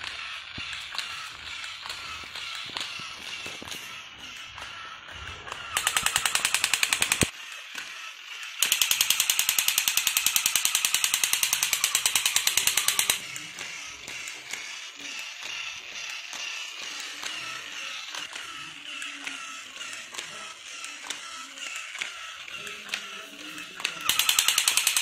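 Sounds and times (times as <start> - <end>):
toy machine gun bursts: 0.0 - 25.0
toy mechanical whir: 0.0 - 25.0.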